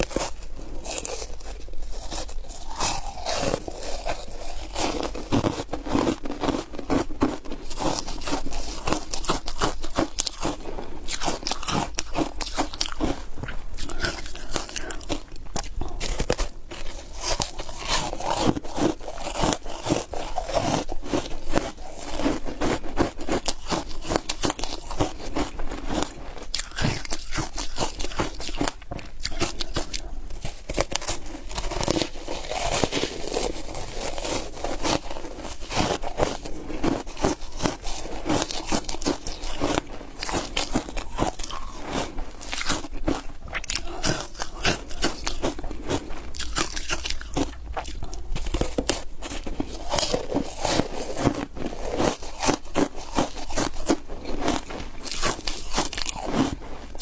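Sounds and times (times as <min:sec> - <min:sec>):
ice being crunched while chewing: 0:00.0 - 0:57.0.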